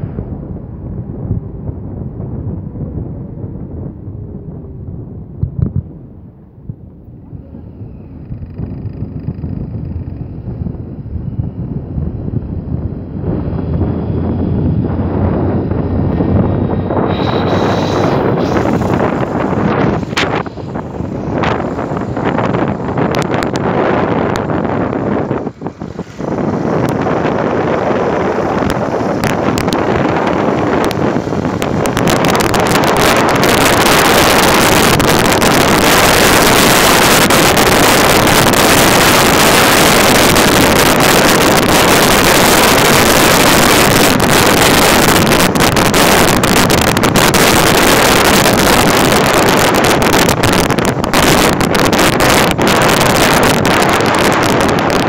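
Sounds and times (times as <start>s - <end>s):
road noise: 0.0s - 55.0s
wind rushing over microphone: 0.0s - 55.0s
motorcycle engine: 1.3s - 55.0s.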